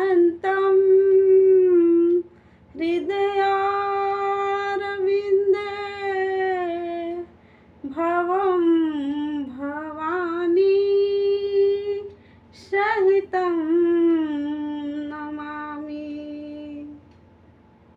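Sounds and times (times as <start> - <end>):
woman singing a chant: 0.0 - 17.1.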